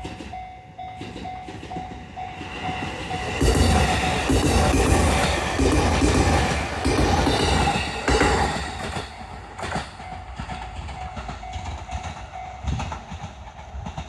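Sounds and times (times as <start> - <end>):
electric train running past: 0.0 - 14.0
wheels clacking over rail joints: 0.0 - 14.0.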